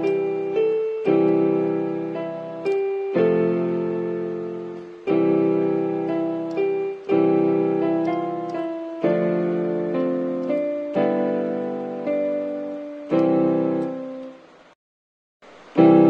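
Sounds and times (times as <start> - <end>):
piano chords ringing: 0.0 - 14.8, 15.5 - 16.0.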